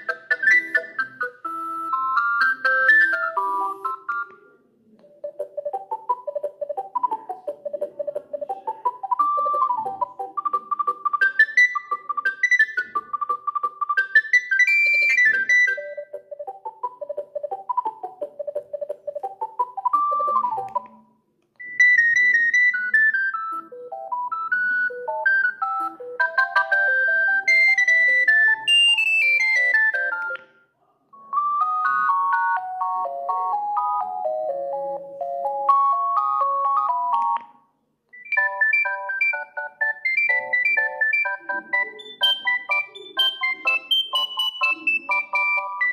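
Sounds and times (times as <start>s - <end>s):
mobile phone ringtone melodies: 0.0s - 4.4s, 5.1s - 21.0s, 21.6s - 30.4s, 31.2s - 37.4s, 38.2s - 45.9s.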